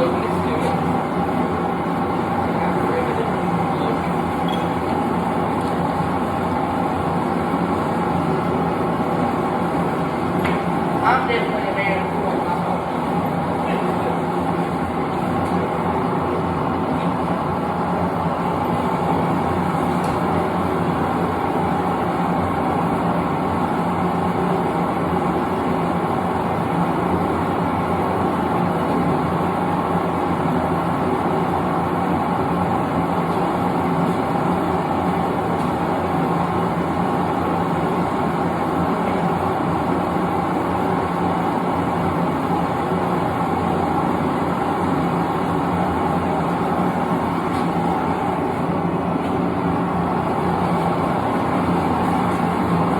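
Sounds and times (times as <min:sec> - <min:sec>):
forge burner roaring: 0:00.0 - 0:52.9.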